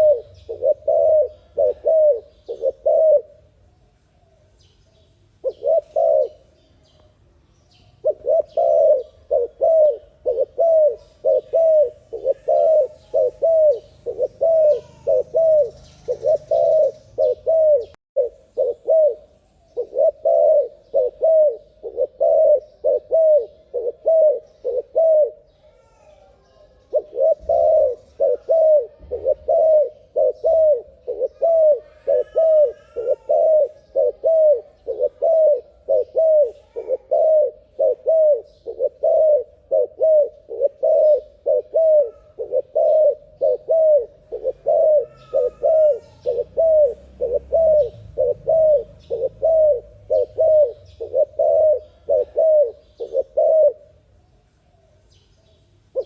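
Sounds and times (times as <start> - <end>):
turtle dove cooing: 0.0 - 3.7, 5.3 - 7.1, 7.7 - 55.1.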